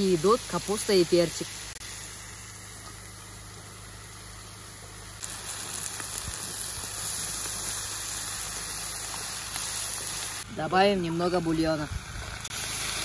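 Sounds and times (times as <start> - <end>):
vegetables and meat sizzling in fat: 0.0 - 13.0.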